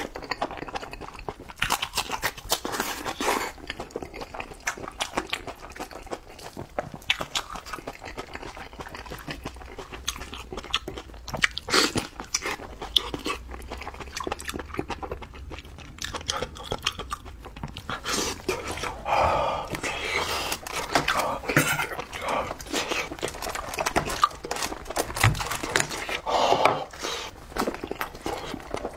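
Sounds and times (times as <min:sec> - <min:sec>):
chewing and crunching meat: 0:00.0 - 0:28.9.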